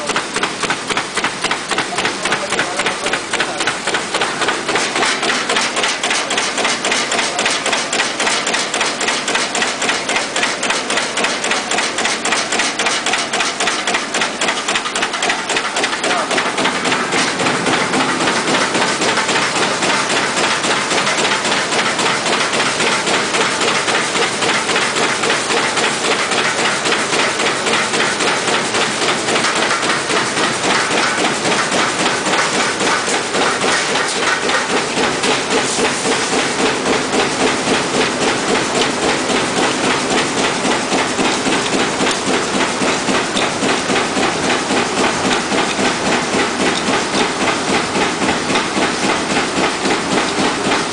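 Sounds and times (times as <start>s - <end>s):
cutting machine clatter: 0.0s - 50.9s
machine hiss: 0.0s - 50.9s.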